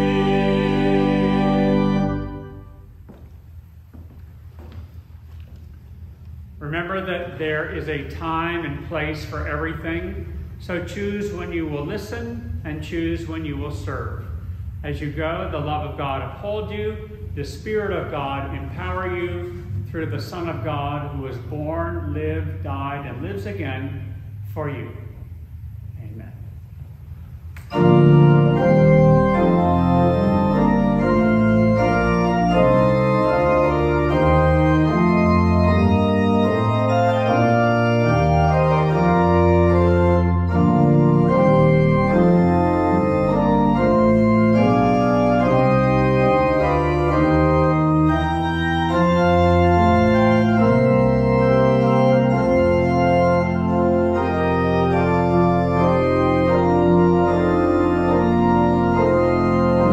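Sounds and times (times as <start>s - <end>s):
organ playing chords: 0.0s - 4.7s, 5.9s - 59.9s.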